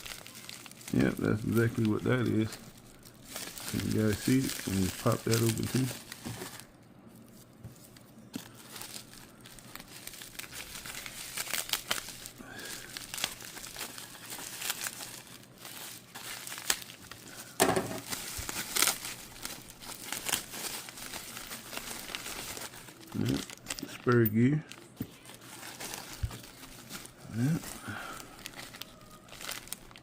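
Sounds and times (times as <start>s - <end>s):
packaging crinkling and tearing: 0.0s - 30.0s.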